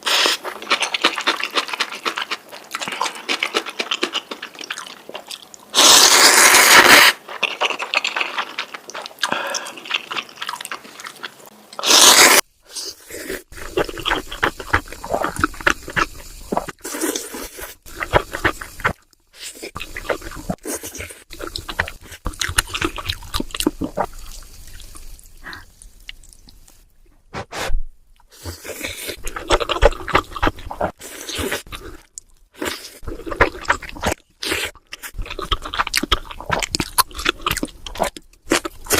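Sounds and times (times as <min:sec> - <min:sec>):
slurping and chewing noodles: 0:00.0 - 0:26.4, 0:28.3 - 0:38.9.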